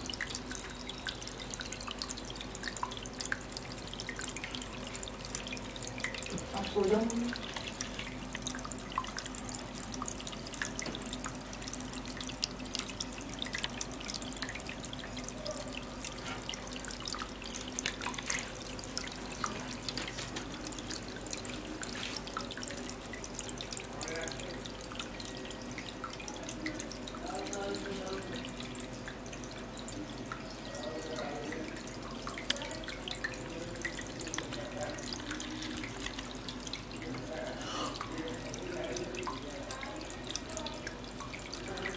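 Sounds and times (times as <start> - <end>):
fountain water trickling: 0.0 - 41.9.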